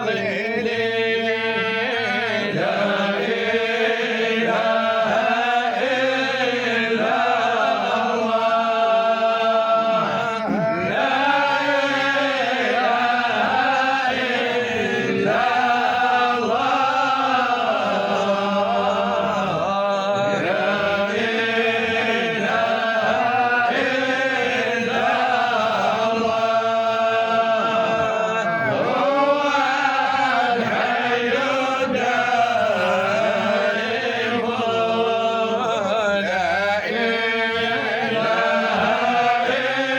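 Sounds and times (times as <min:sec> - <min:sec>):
man chanting: 0:00.0 - 0:39.9.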